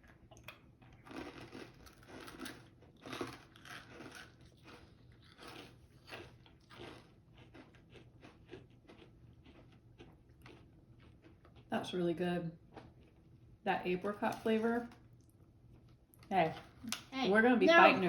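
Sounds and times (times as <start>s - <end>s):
chewing crispy cookies: 0.0s - 17.2s.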